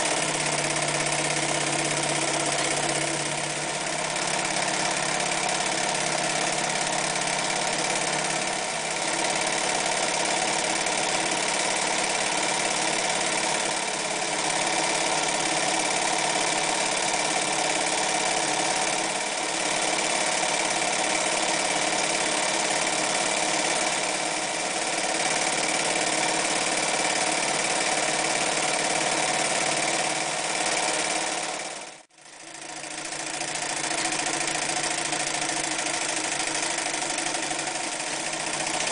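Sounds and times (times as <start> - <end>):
electric sewing machine running: 0.0 - 38.9.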